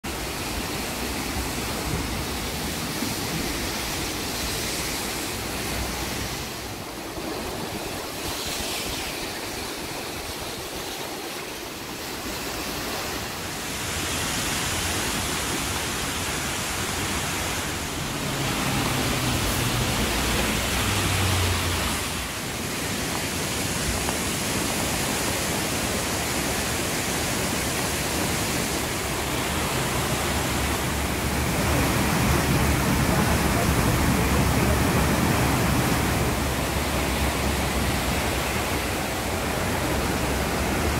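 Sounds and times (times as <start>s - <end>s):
flooded river rushing: 0.0s - 40.9s.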